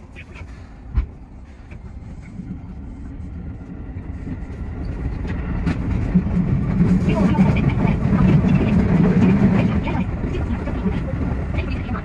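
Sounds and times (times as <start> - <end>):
electric train running rumble: 0.0 - 12.0.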